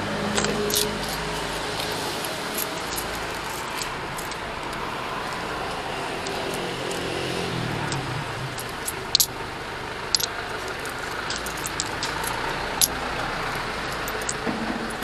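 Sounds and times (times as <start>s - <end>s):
motorcycle engine and road noise: 0.0s - 15.0s
sharp ticks or rattles: 0.3s - 15.0s.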